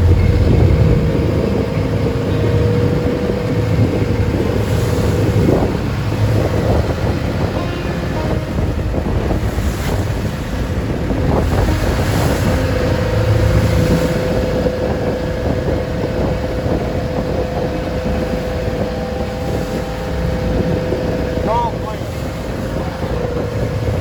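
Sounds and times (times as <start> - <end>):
boat engine running: 0.0 - 24.0
steady hum: 0.0 - 24.0
waves washing against hull: 0.0 - 24.0
wind buffeting microphone: 0.0 - 24.0.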